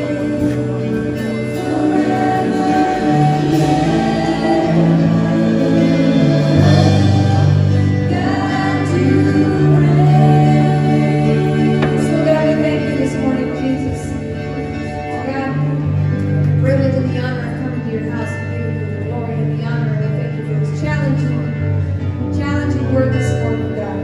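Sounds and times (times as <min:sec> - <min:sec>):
gospel worship music: 0:00.0 - 0:24.0.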